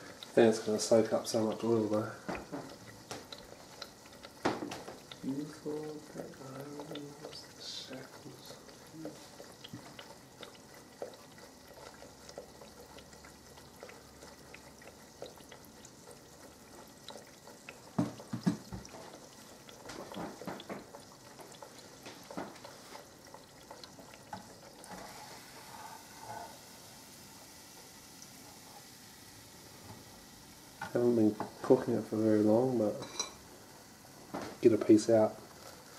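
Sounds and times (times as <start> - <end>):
oil popping: 0.0 - 35.9
oil sizzling and bubbling: 0.0 - 35.9.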